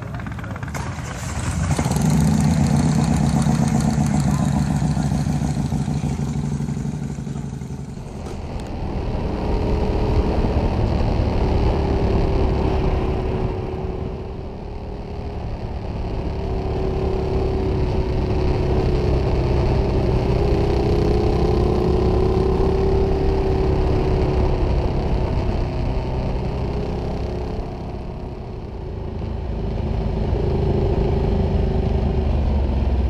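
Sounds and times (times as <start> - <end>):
motorcycle engine: 0.0 - 33.0.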